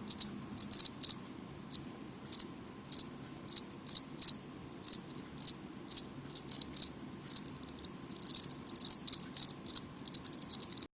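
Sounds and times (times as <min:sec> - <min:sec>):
crickets chirping: 0:00.1 - 0:01.2, 0:02.3 - 0:10.9.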